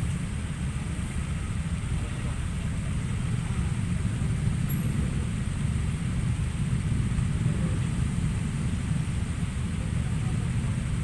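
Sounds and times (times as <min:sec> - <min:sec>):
low rumble of traffic engines: 0:00.0 - 0:11.0.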